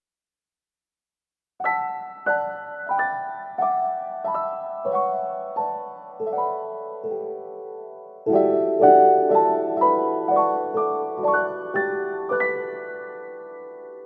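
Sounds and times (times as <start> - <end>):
slow piano melody: 1.6 - 14.0.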